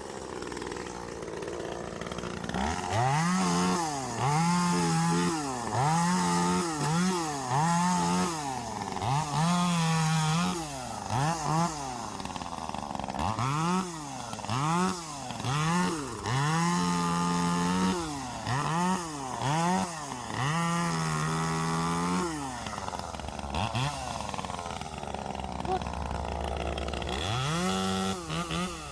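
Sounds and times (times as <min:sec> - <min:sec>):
small chainsaw revving and cutting: 0:00.0 - 0:28.9.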